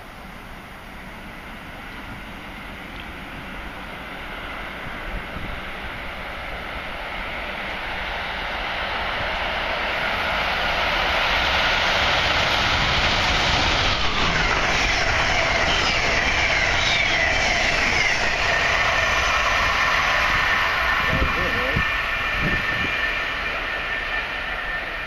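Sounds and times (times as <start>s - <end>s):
train rushing along track: 0.0s - 25.0s.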